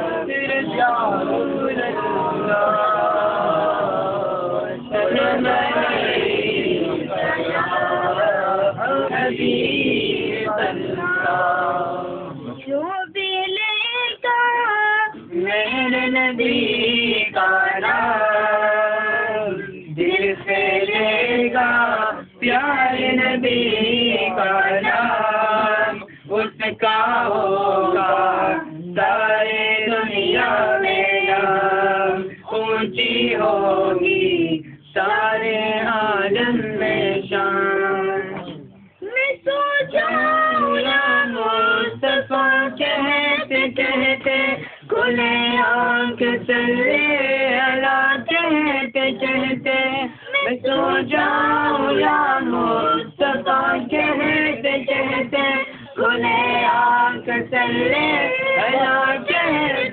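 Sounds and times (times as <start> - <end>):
men singing together: 0.0 - 12.7, 15.1 - 38.9, 39.5 - 59.9.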